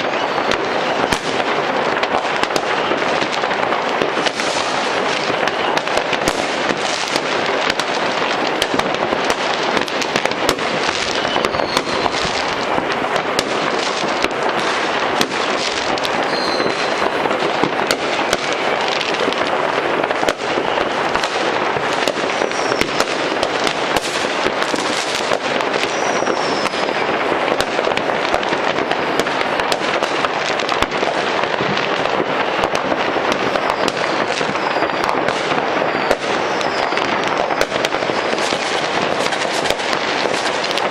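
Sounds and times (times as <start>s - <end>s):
firework whistles: 0.0s - 40.9s
fireworks crackling and banging: 0.0s - 40.9s.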